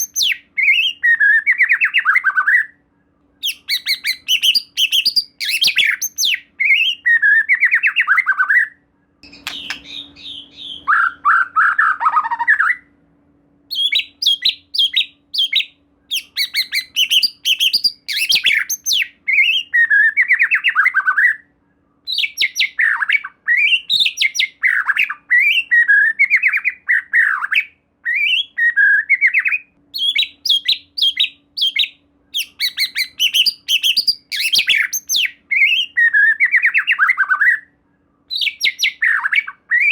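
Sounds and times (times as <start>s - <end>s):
songbird singing: 0.0s - 13.0s, 13.7s - 39.9s.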